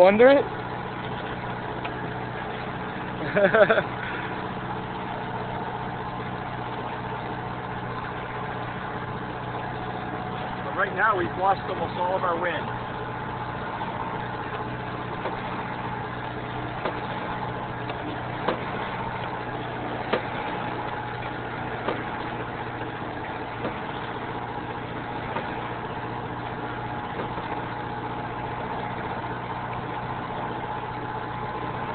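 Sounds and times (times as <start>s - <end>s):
boat engine droning: 0.0s - 31.9s.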